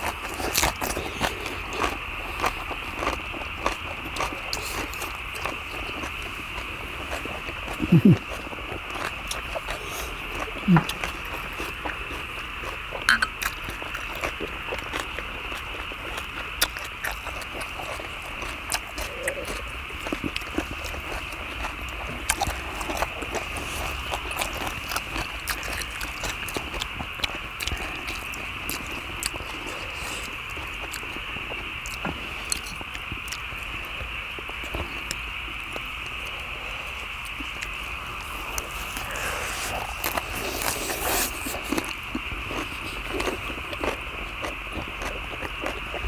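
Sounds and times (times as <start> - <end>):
chewing: 0.0 - 46.0.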